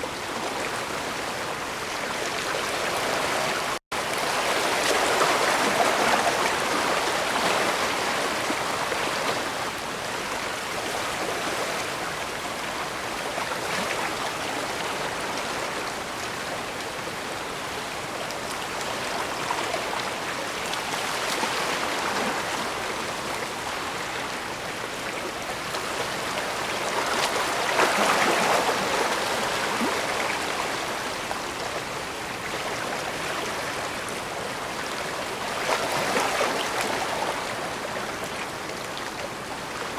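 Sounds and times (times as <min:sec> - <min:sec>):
bay water washing: 0:00.0 - 0:39.9.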